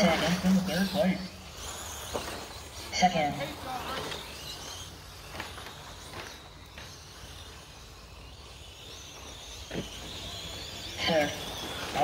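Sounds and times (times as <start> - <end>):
faint high motor whine: 0.0 - 12.0
outdoor background noise: 0.0 - 12.0.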